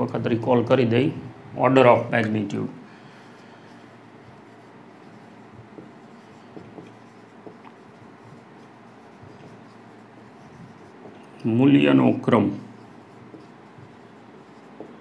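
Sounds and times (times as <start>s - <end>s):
marker writing on whiteboard: 2.9s - 15.0s.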